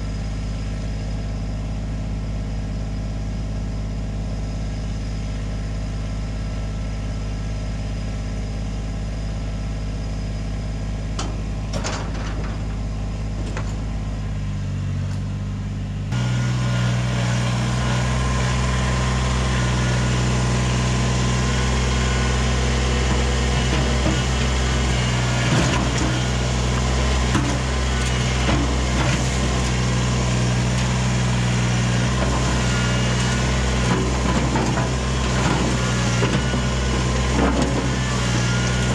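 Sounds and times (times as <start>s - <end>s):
engine idling: 0.0s - 38.9s
tractor diesel engine running: 0.0s - 38.9s.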